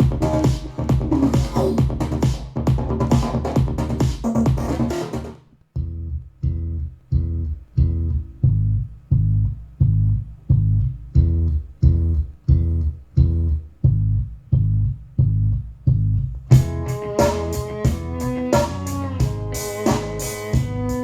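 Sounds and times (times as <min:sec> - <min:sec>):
bass guitar plucking low riff: 0:00.0 - 0:04.0, 0:05.7 - 0:21.0.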